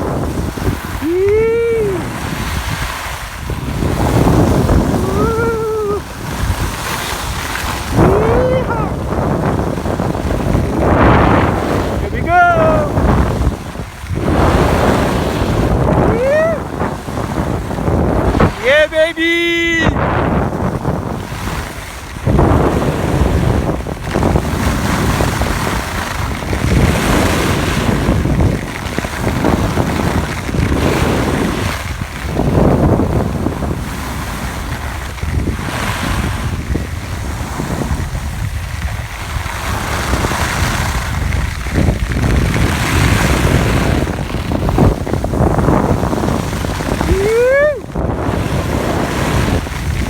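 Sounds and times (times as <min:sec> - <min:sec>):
skis scraping on hard snow: 0:00.0 - 0:50.0
wind rushing over microphone: 0:00.0 - 0:50.0.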